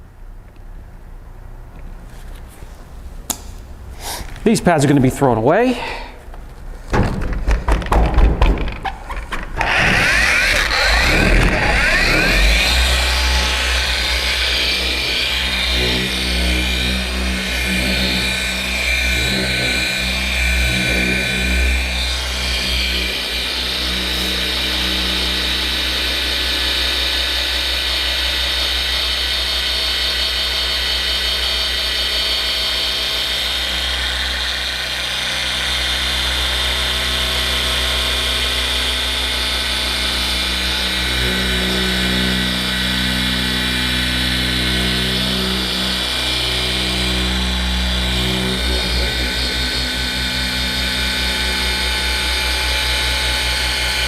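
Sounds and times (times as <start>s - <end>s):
polisher humming: 9.3s - 54.0s.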